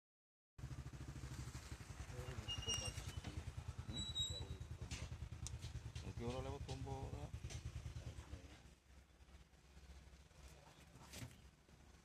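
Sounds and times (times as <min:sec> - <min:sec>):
diesel engine idling: 0:00.6 - 0:12.0.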